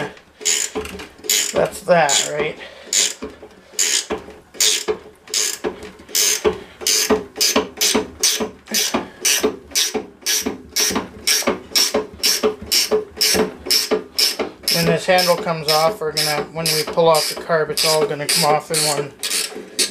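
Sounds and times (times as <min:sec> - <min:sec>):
ratchet wrench clicking: 0:00.4 - 0:03.2, 0:03.8 - 0:19.9.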